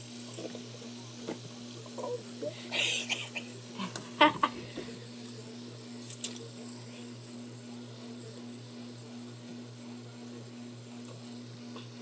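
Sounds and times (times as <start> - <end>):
low hum with hiss: 0.0 - 12.0.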